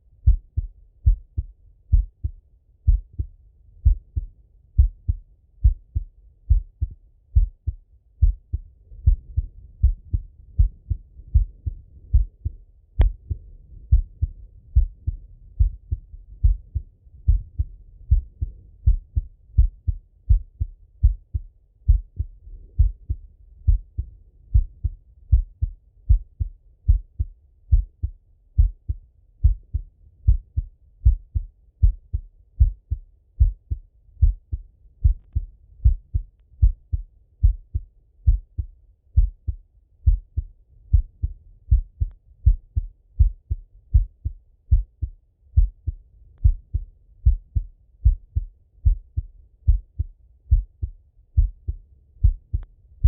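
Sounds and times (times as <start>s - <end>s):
heartbeat thumps: 0.2s - 52.7s.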